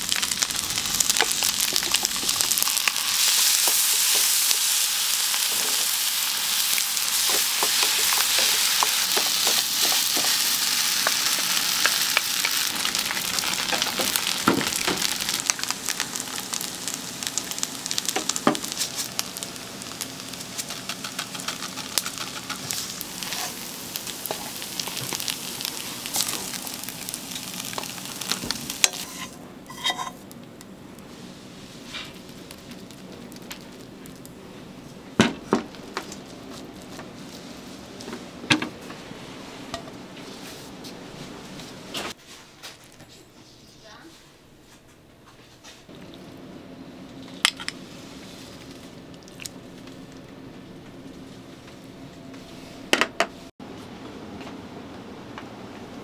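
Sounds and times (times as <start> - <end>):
rice sizzling: 0.0 - 42.2, 45.8 - 54.3.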